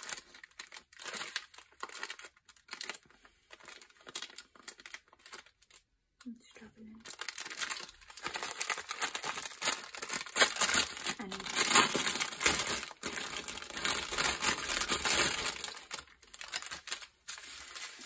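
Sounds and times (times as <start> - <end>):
plastic packaging crinkling: 0.0 - 5.9, 6.8 - 18.0.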